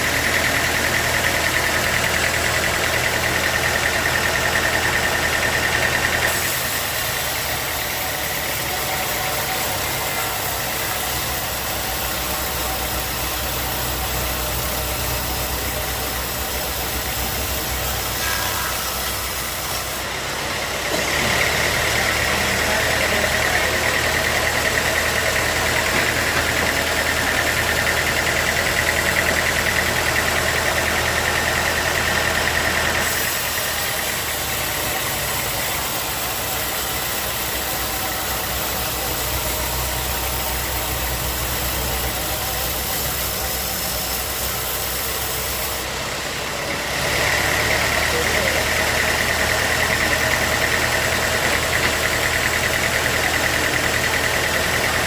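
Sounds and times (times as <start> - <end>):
high machine whine: 0.0 - 55.0.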